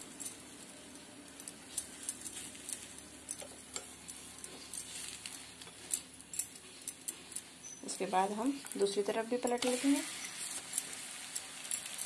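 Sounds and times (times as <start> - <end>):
spoon scraping flat pan: 1.7 - 12.0.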